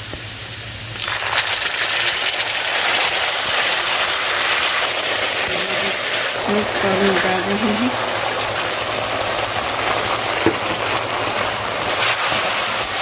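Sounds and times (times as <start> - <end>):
sizzling in hot oil: 0.0 - 13.0.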